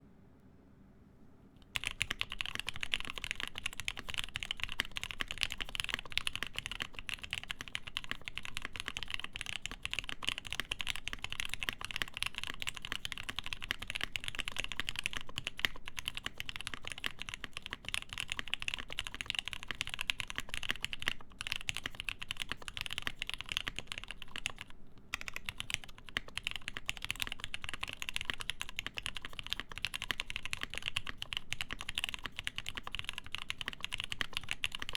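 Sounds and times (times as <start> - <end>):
typing on mechanical keyboard: 1.6 - 34.9.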